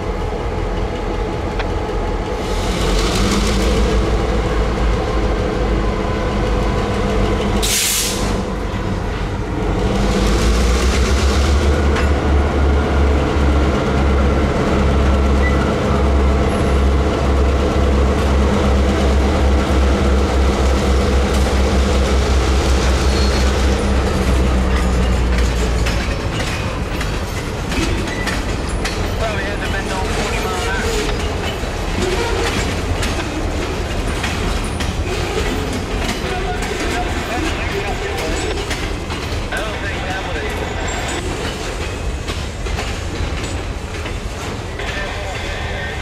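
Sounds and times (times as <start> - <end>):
diesel locomotive engine drone: 0.0 - 46.0.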